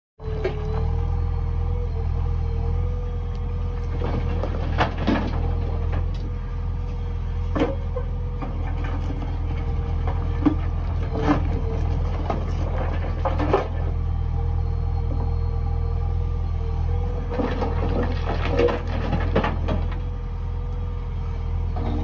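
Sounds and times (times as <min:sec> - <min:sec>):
diesel engine running: 0:00.2 - 0:22.0.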